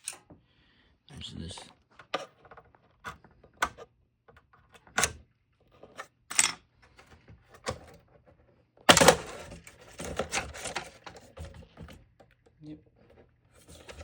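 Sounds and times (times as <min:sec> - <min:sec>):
plastic and metal clatter: 0:01.6 - 0:14.0.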